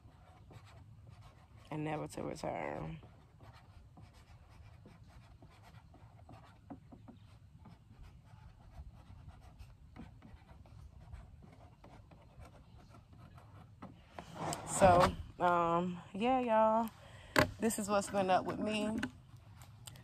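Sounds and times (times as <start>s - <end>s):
marker scratching on plastic: 0.0s - 15.6s, 17.7s - 19.8s.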